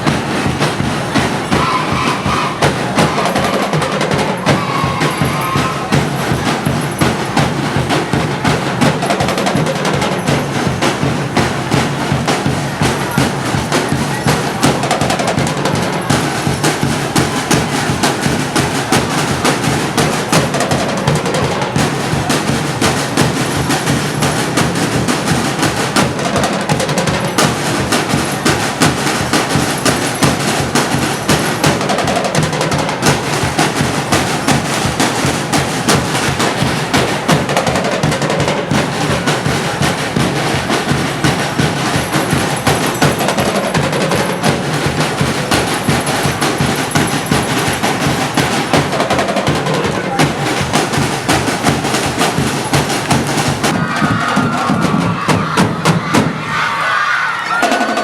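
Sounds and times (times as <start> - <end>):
fast drum percussion music: 0.0 - 58.0.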